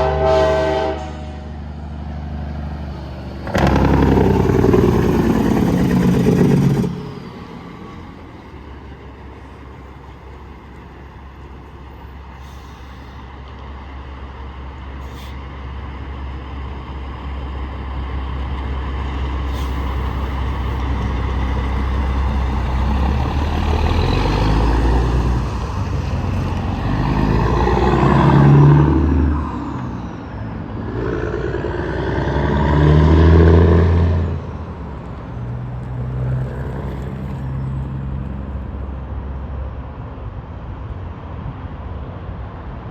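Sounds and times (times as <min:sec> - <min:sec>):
truck engine and tyre drone: 0:00.0 - 0:42.9
trucks passing on highway: 0:00.0 - 0:42.9.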